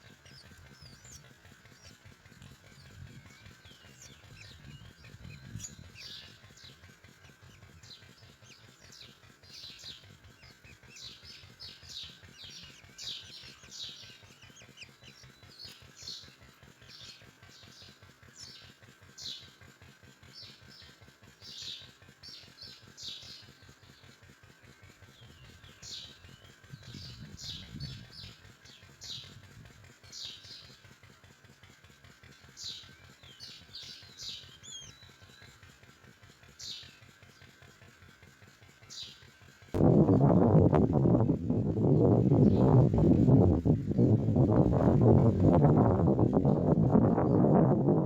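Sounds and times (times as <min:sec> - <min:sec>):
nestlings begging calls: 0:00.0 - 0:19.6, 0:20.3 - 0:24.0, 0:25.1 - 0:30.8, 0:32.3 - 0:38.0, 0:38.8 - 0:39.3, 0:40.0 - 0:47.5.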